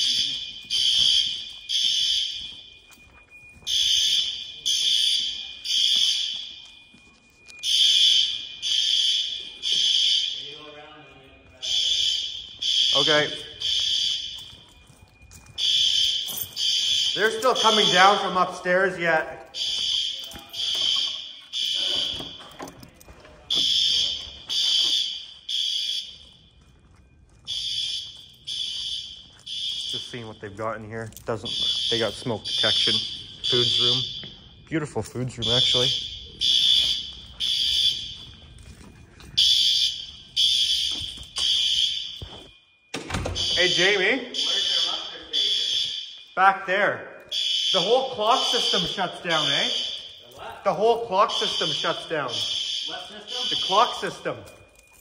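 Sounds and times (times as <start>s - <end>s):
fire alarm horn blasts: 0.0s - 55.0s.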